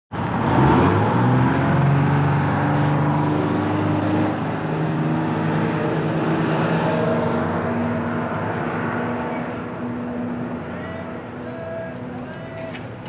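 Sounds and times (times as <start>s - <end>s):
bus engine running: 0.1s - 13.0s.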